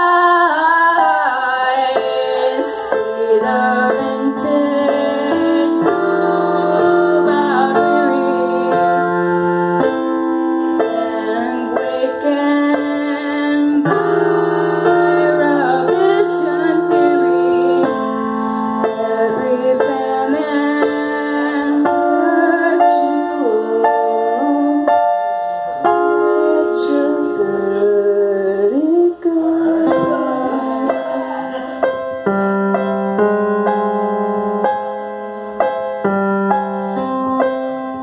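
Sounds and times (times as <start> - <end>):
woman singing: 0.0 - 32.8
keyboard chords: 0.0 - 38.0.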